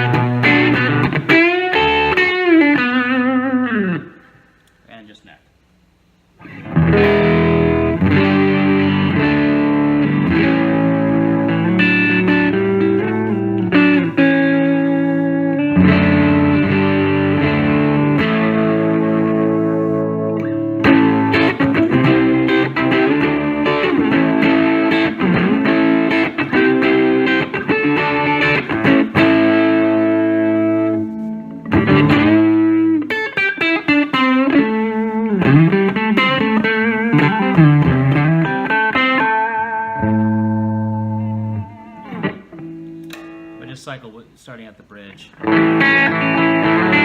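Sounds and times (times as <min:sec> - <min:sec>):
overdriven electric guitar: 0:00.0 - 0:04.8, 0:06.4 - 0:43.7, 0:45.3 - 0:47.0.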